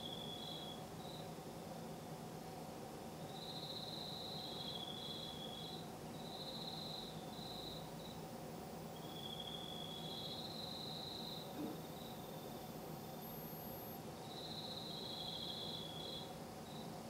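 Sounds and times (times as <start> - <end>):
crickets trilling: 0.0 - 1.3, 3.3 - 17.0
faint low hum: 0.0 - 17.0.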